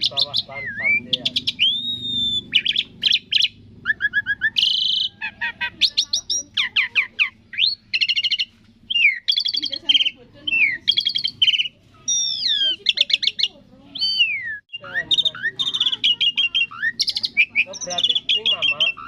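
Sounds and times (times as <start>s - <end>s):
starling singing: 0.0s - 19.0s.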